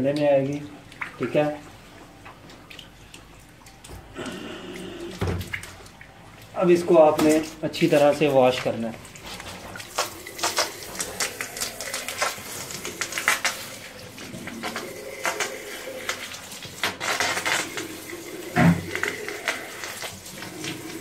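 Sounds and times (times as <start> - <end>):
hose water running: 0.0 - 21.0.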